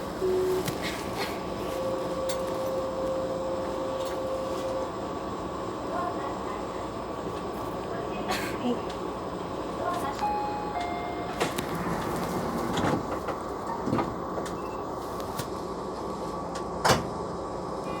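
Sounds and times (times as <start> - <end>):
train interior running noise: 0.0 - 18.0.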